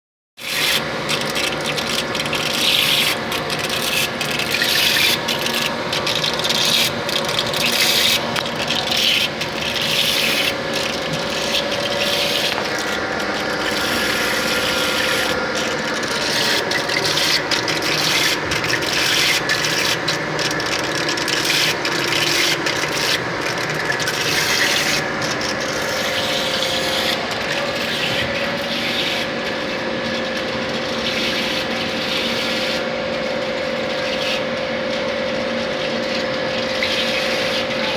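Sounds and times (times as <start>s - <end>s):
machine crackling rasp: 0.4s - 37.9s.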